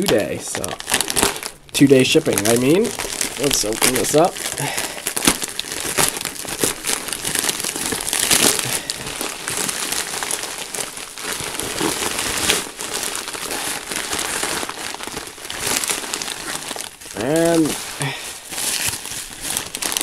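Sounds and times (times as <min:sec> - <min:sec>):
bubble wrap rustling: 0:00.0 - 0:20.0
plastic mailer crinkling: 0:00.0 - 0:20.0.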